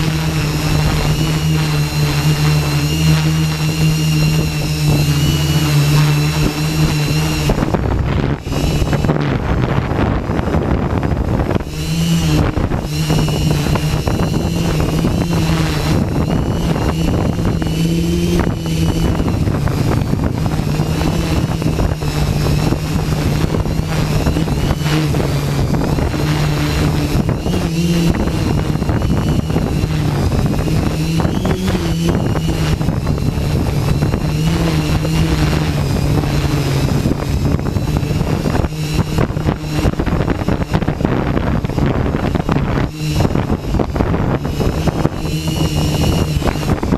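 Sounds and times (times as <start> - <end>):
drone propellers humming: 0.0 - 46.9
wind buffeting microphone: 0.0 - 46.9.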